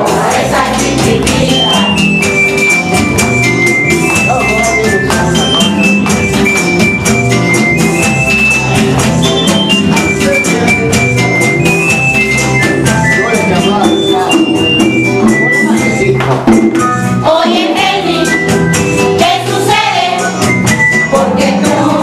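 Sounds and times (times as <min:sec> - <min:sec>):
lively dance music: 0:00.0 - 0:22.0.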